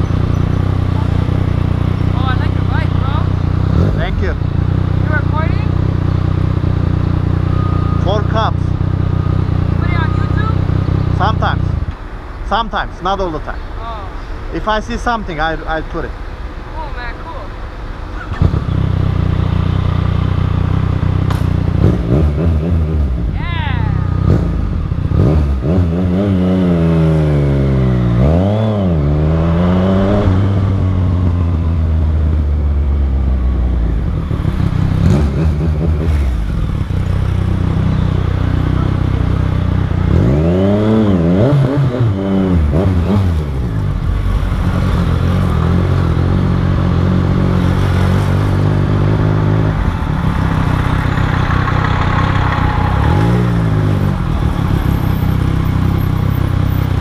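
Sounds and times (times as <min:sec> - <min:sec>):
motorcycle engine revving: 0:00.0 - 0:12.0, 0:18.1 - 0:57.0.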